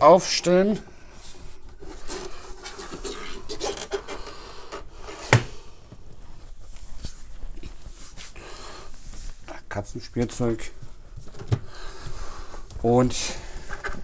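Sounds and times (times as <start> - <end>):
console and cables rustling: 0.0 - 14.0.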